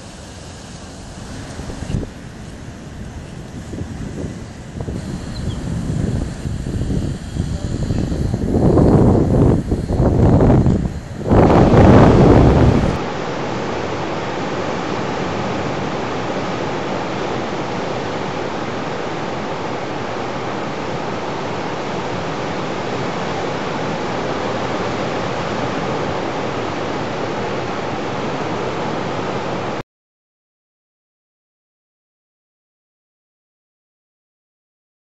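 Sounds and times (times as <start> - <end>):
surf breaking on beach: 0.0 - 29.8.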